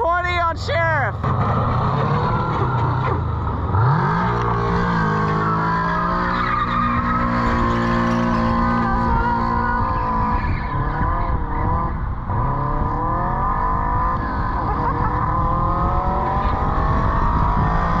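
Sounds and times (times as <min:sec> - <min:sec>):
car engine revving hard: 0:01.4 - 0:18.0.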